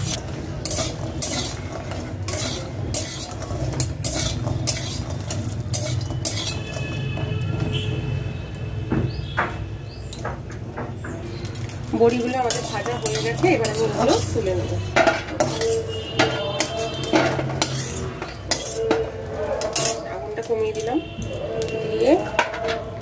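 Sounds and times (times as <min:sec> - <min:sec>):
metal spatula scraping pan: 0:00.0 - 0:08.2, 0:11.4 - 0:23.0
oil sizzling: 0:00.0 - 0:08.6, 0:11.2 - 0:23.0
clinks and knocks against pan: 0:00.6 - 0:07.8, 0:08.9 - 0:21.0, 0:21.6 - 0:23.0.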